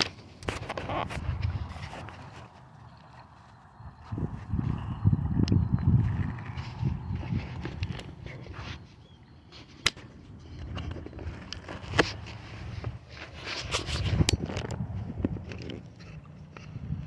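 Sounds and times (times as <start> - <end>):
phone handling rustling and scraping: 0.0 - 4.1, 5.6 - 17.0.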